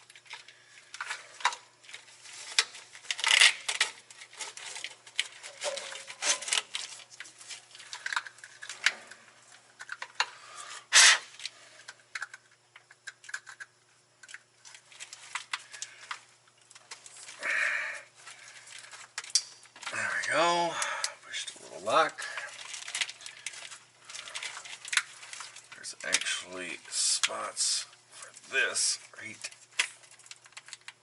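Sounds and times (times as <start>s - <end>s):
plastic connectors clicking and rattling: 0.0s - 9.2s, 9.8s - 10.3s, 11.4s - 17.3s, 18.4s - 20.3s, 22.0s - 27.5s, 29.2s - 31.0s.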